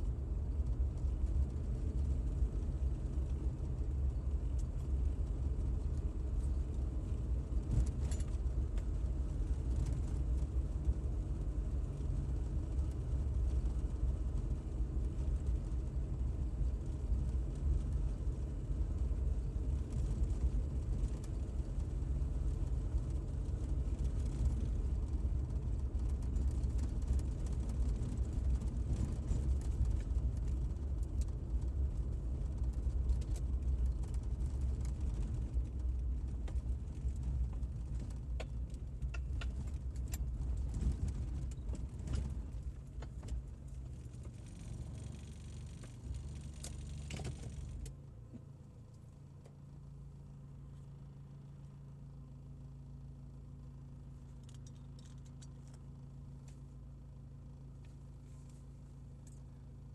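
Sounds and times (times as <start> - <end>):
car engine and tyres rumbling: 0.0 - 59.9
faint clicks and rattles: 0.5 - 49.6, 54.3 - 56.7.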